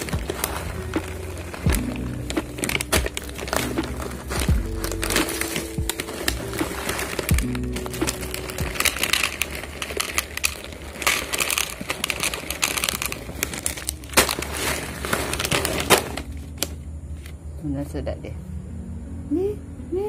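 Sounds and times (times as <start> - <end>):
kibble rattling in plastic tub: 0.0 - 16.4
plastic pouch crinkling: 0.0 - 16.8.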